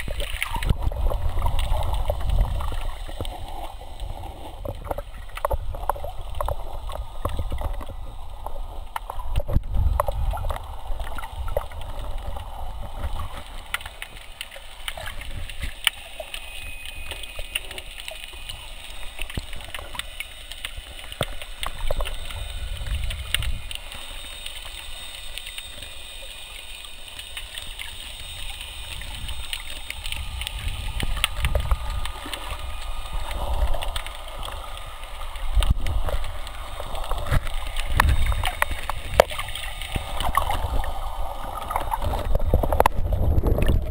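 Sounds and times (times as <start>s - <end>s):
underwater clicks and crackles: 0.0s - 43.9s
underwater rumble of moving water: 0.0s - 43.9s.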